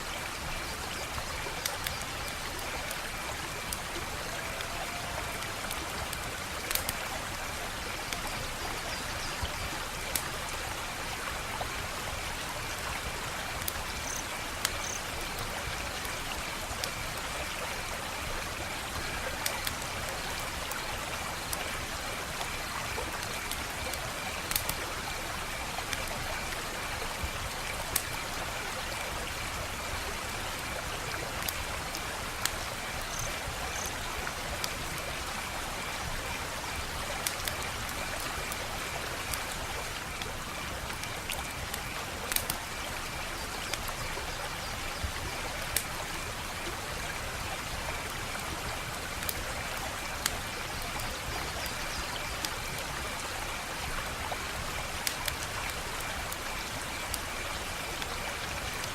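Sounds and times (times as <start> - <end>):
wood fire crackling: 0.8 - 8.8, 9.4 - 26.1, 30.0 - 44.2, 47.4 - 51.5, 53.7 - 58.9.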